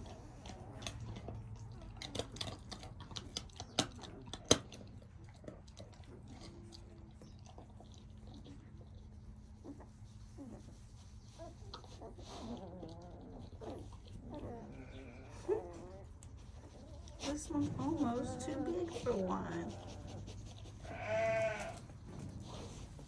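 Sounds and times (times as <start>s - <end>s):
dog gnawing on a bone: 0.0s - 10.8s, 11.4s - 23.0s.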